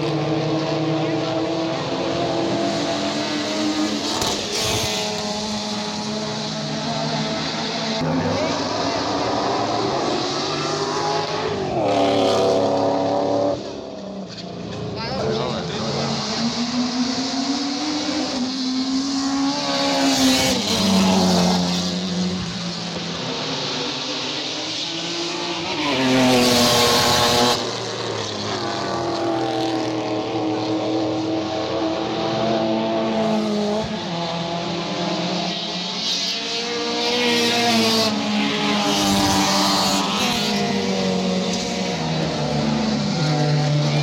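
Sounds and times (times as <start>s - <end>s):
race car engines revving past: 0.0s - 44.0s.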